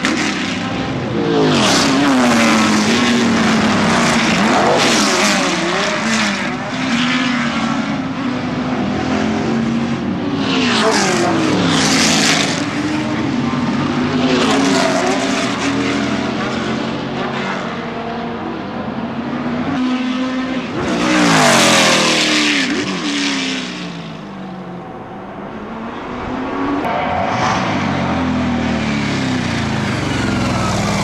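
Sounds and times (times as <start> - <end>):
racing cars passing: 0.0 - 31.0.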